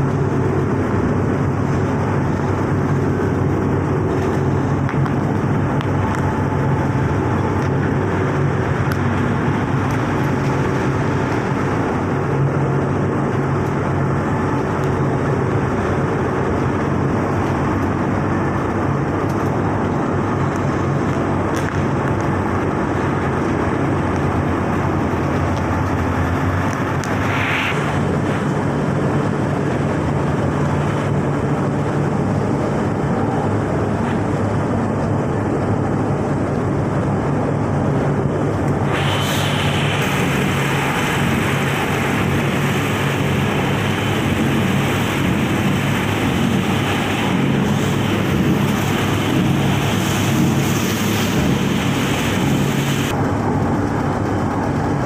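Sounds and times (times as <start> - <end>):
low motor hum: 0.0 - 55.0
machinery drone: 0.0 - 55.0.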